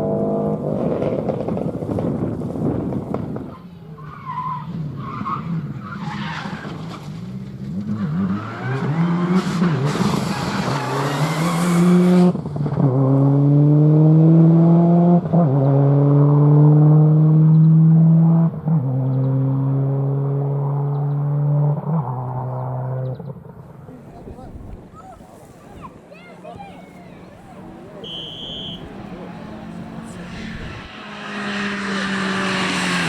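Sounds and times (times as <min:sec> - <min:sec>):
rally car engine at full throttle: 0:00.0 - 0:23.9, 0:27.6 - 0:33.0.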